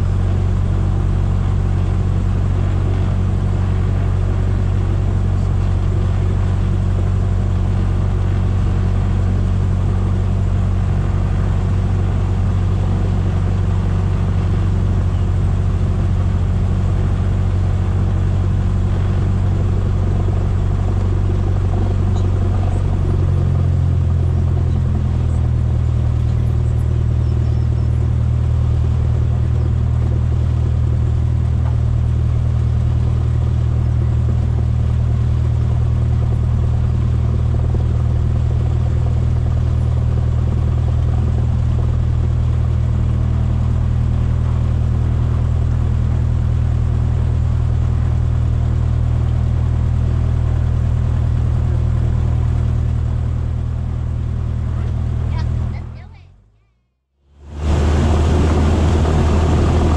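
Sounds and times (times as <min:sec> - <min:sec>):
airplane piston engine and propeller: 0:00.0 - 0:56.2, 0:57.3 - 0:59.9.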